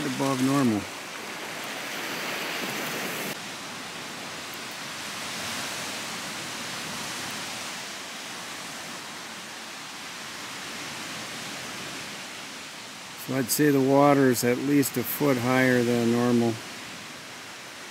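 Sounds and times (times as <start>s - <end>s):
steady outdoor rushing hiss: 0.0s - 17.9s.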